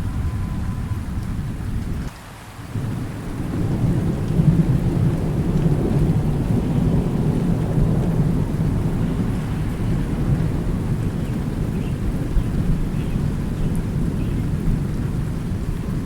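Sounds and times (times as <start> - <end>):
rolling thunder: 0.0 - 2.1, 2.7 - 16.0
steady rain: 0.0 - 16.0.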